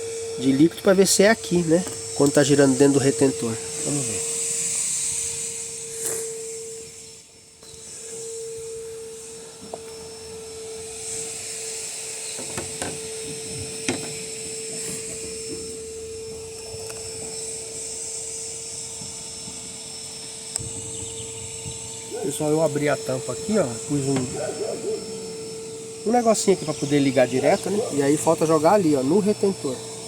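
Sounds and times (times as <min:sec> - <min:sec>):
washing machine spinning whine: 0:00.0 - 0:30.0.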